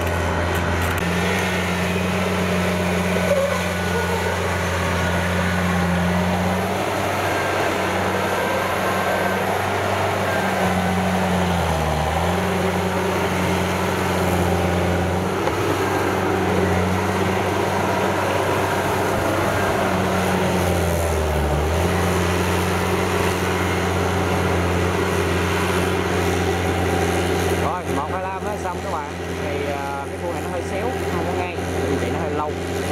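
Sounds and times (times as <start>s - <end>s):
diesel engine running under load: 0.0s - 32.9s.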